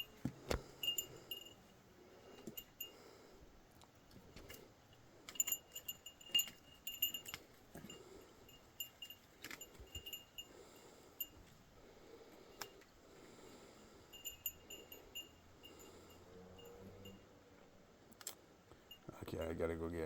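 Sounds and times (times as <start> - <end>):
small metal bell tinkling: 0.0 - 3.1, 4.3 - 11.6, 12.5 - 17.4, 18.7 - 19.5.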